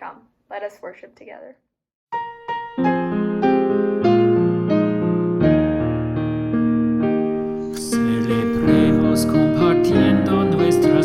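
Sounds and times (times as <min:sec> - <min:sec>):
piano chords: 0:02.1 - 0:11.0.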